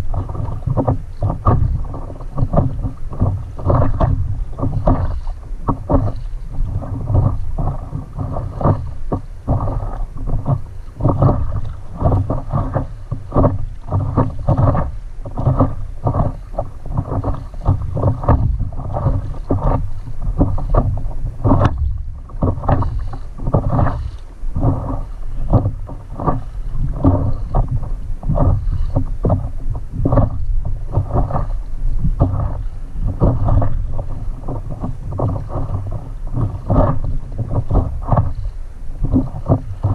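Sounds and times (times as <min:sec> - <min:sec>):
water splashing against paddleboard: 0:00.0 - 0:39.9
wind rumbling on microphone: 0:00.0 - 0:39.9.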